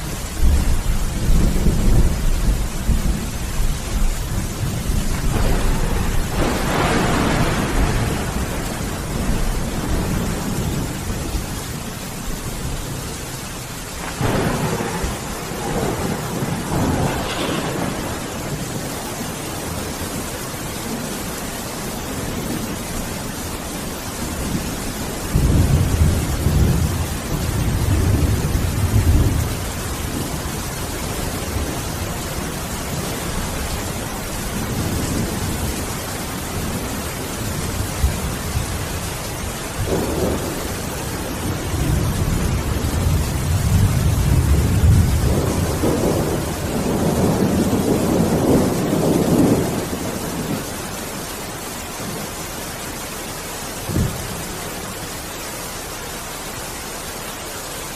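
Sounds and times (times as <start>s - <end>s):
thunder rumbling: 0.0s - 52.4s, 53.7s - 55.0s
heavy rain: 0.0s - 57.9s.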